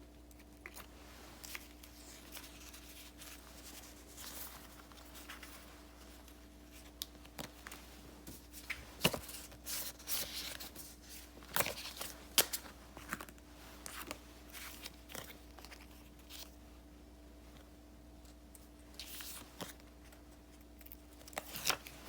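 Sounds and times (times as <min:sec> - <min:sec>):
paper rustling and crinkling: 0:00.3 - 0:16.6, 0:18.2 - 0:22.0.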